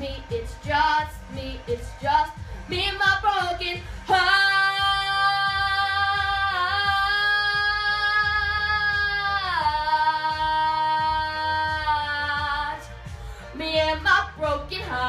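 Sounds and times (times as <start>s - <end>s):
low bass beat: 0.0s - 15.0s.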